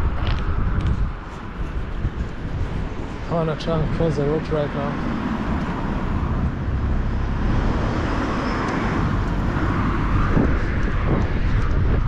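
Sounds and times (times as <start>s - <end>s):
road traffic rushing past: 1.0s - 12.0s.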